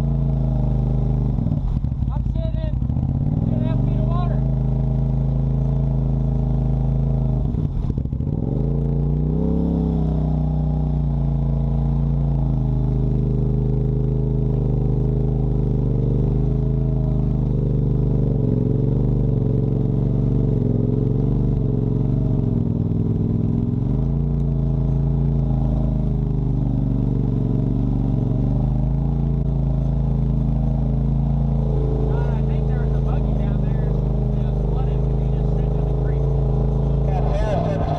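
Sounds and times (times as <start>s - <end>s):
off-road vehicle engine revving: 0.0s - 37.9s.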